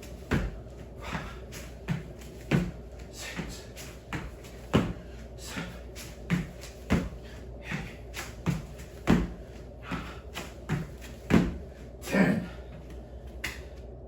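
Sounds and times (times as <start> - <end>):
thumps and shuffles of exercise: 0.0 - 14.0.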